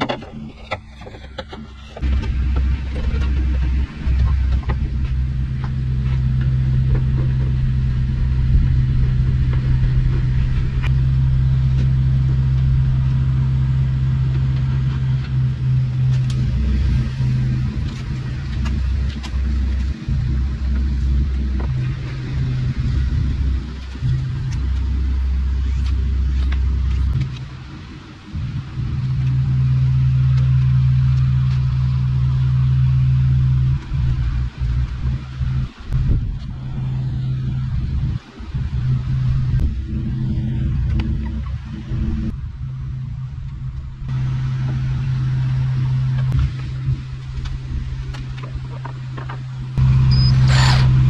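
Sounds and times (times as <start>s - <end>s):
two-stroke truck engine droning: 0.0s - 51.0s.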